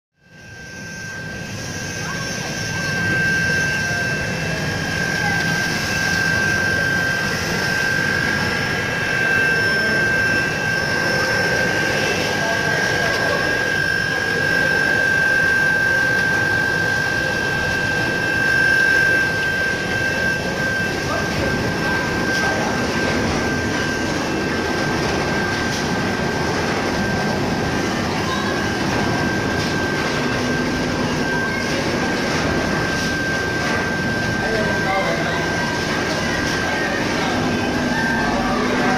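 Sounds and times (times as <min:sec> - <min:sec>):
machine high whine: 0:00.2 - 0:38.9.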